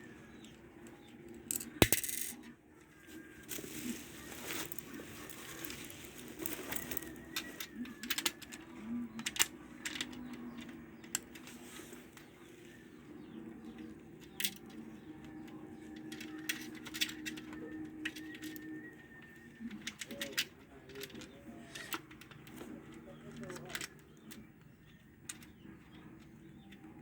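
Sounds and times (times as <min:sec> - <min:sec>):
metal parts and tools clinking: 0:00.4 - 0:02.5, 0:03.4 - 0:12.4, 0:13.7 - 0:24.4, 0:25.2 - 0:27.0.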